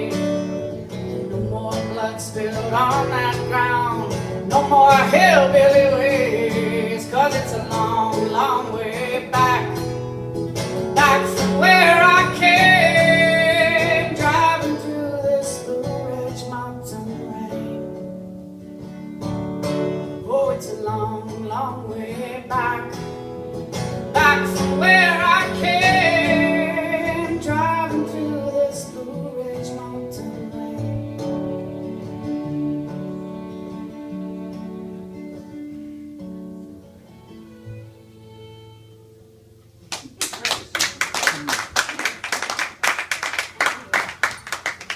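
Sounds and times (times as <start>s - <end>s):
acoustic guitar: 0.0s - 44.9s.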